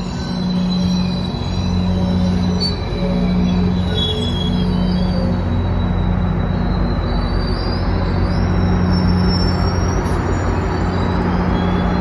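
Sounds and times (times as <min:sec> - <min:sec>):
train engine drone: 0:00.0 - 0:12.0
wheel squeals on rails: 0:00.0 - 0:12.0.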